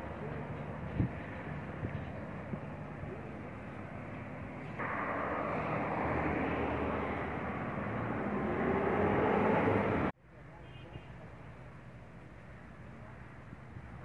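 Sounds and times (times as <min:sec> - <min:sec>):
passing road traffic: 0:00.0 - 0:14.0.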